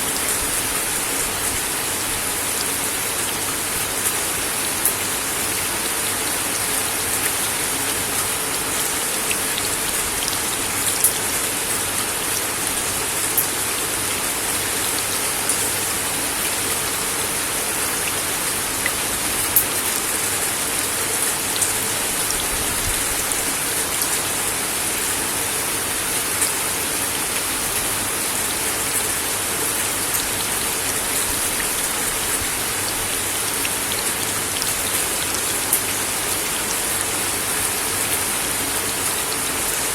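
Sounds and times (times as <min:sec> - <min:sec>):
rain on a wooden deck: 0:00.0 - 0:39.9.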